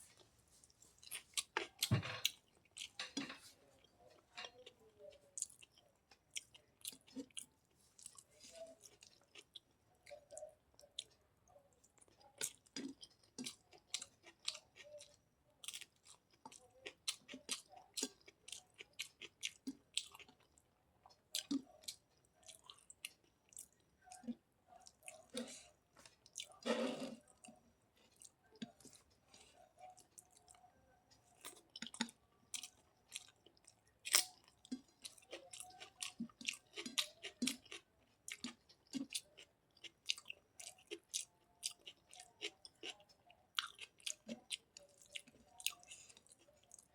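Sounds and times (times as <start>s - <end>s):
person chewing food: 0.1s - 46.9s.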